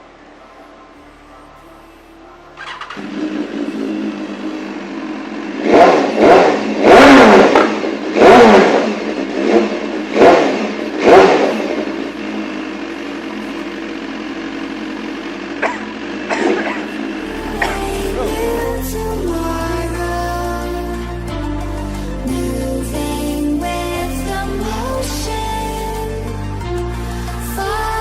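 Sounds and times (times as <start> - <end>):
motorcycle engine idling: 0.0 - 6.8, 8.9 - 28.0
motorcycle engine revving: 2.5 - 28.0.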